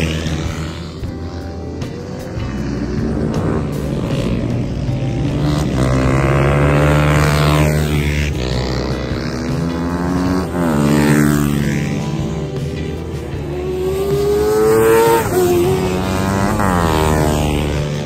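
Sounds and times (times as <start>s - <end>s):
racing motorcycle engines at full throttle: 0.0s - 18.0s.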